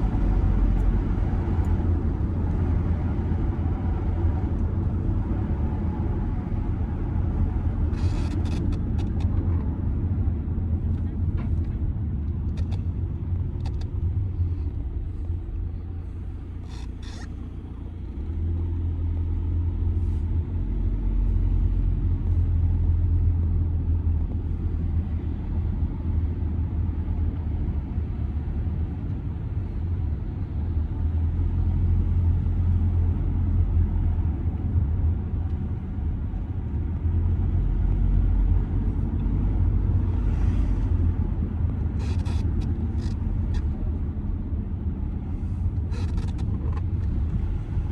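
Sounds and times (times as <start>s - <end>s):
diesel car engine and road noise: 0.0s - 47.9s.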